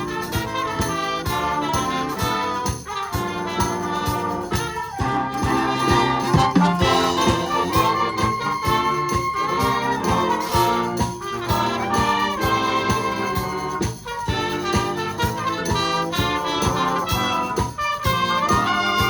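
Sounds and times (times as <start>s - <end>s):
steady percussion beat: 0.0s - 19.0s
wind band playing: 0.0s - 19.0s.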